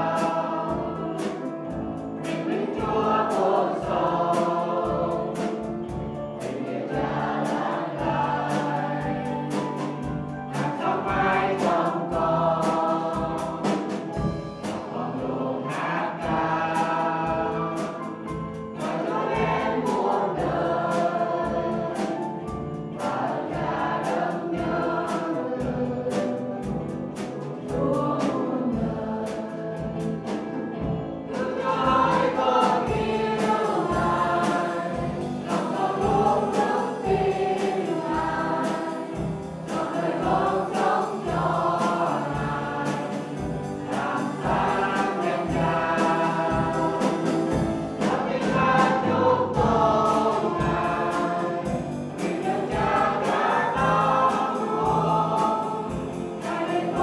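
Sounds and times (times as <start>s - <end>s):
drum kit beat: 0.0s - 57.0s
voices singing over a band: 0.0s - 57.0s.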